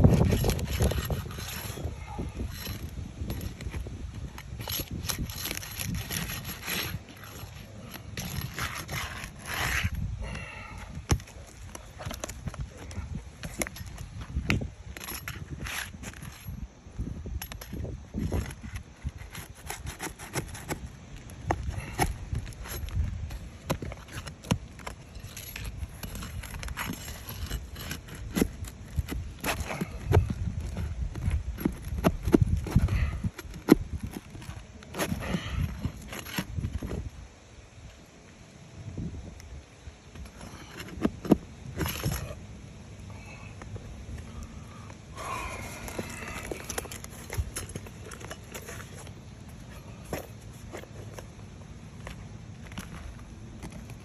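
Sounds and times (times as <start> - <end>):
shingles scraping and crinkling: 0.0 - 38.4, 39.2 - 54.0.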